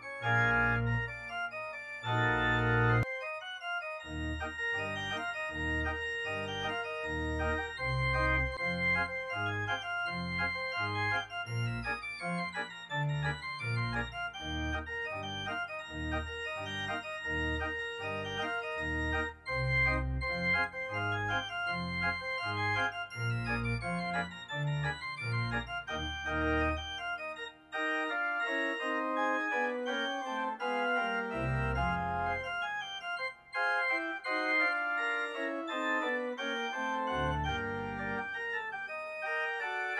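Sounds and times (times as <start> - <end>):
organ bass line: 0.0 - 39.9
organ chords: 0.0 - 39.9.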